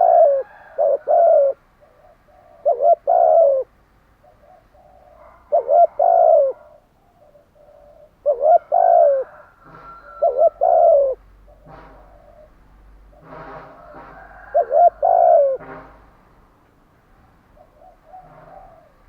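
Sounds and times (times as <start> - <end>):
dove cooing: 0.0 - 15.7, 17.4 - 19.0
distant doves cooing: 0.0 - 15.8, 17.1 - 19.0.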